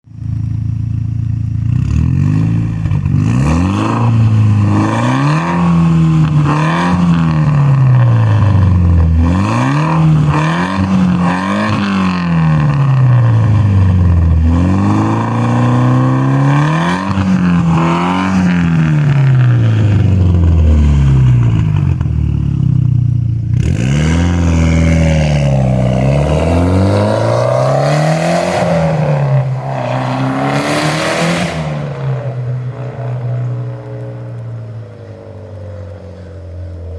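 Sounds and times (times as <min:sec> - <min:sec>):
car engine revving: 0:01.5 - 0:36.9.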